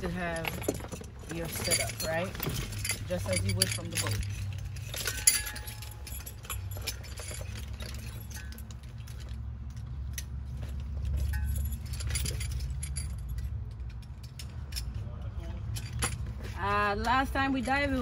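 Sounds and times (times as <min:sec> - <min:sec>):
buckles and clips clinking: 0:00.0 - 0:18.0.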